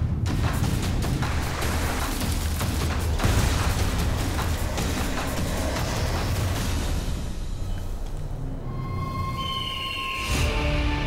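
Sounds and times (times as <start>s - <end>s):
dramatic soundtrack music: 0.0s - 11.0s.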